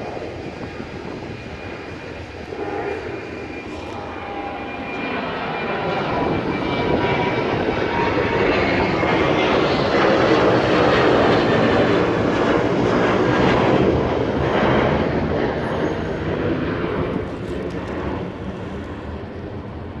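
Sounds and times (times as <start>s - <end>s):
jet airliner flying overhead: 0.0s - 20.0s.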